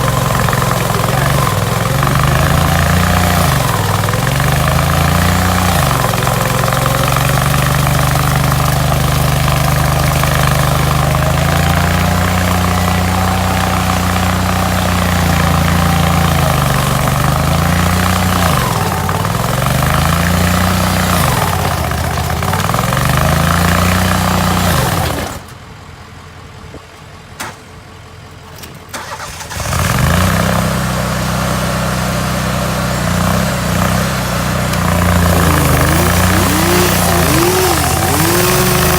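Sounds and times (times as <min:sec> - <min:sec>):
stump grinder engine running: 0:00.0 - 0:25.5, 0:29.0 - 0:38.9.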